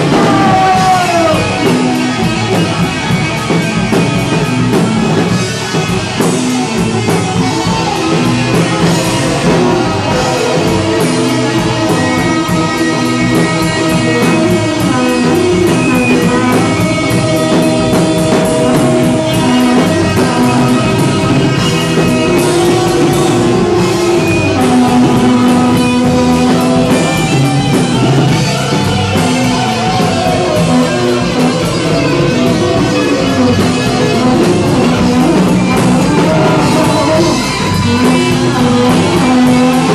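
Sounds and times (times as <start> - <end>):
drums: 0.0 - 39.9
electric guitar held notes: 0.0 - 39.9.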